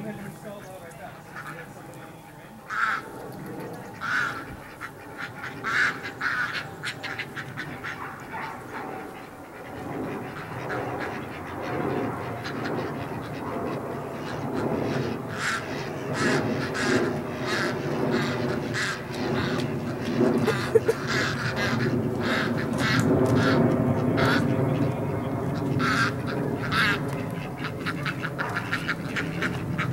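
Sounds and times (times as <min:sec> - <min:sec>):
ducks quacking: 0:00.0 - 0:29.9.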